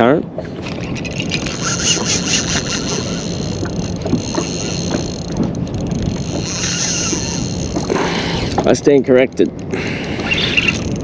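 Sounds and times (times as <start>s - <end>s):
low steady hum: 0.0s - 11.0s
water noise around boat: 0.0s - 11.0s
wind: 0.0s - 11.0s.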